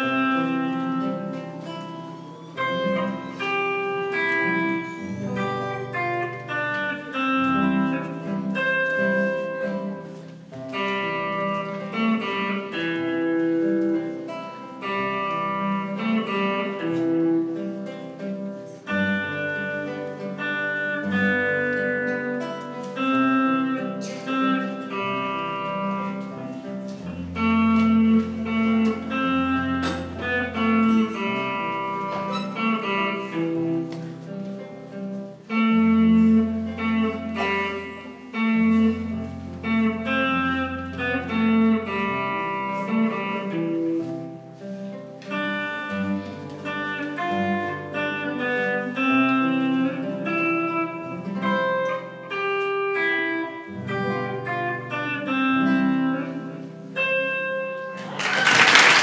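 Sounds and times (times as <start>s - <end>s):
electric guitar: 0.0s - 58.8s
classical guitar: 0.0s - 59.0s.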